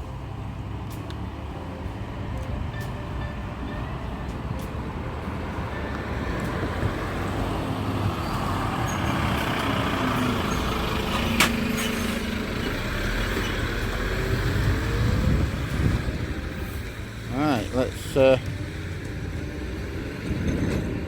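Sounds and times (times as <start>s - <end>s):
road traffic: 0.0s - 21.0s
truck engine running: 0.0s - 21.0s.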